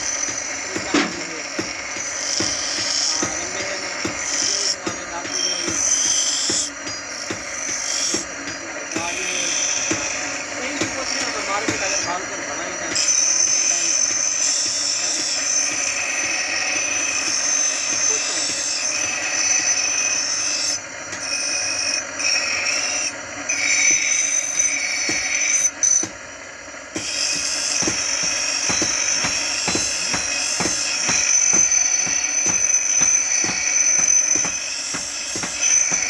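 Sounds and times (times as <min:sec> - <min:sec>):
high scraping hiss on metal: 0:00.0 - 0:26.1, 0:26.9 - 0:36.0.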